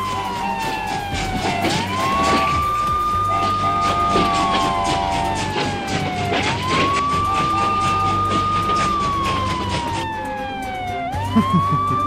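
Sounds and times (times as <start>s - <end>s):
background music with steady beat: 0.0s - 12.0s
wailing siren: 0.0s - 12.0s.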